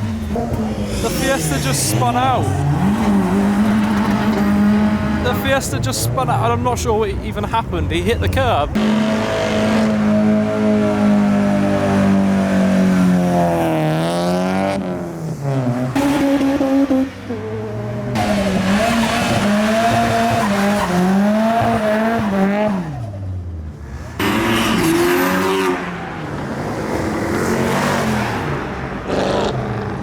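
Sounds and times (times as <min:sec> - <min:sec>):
cars revving and accelerating: 0:00.0 - 0:30.0.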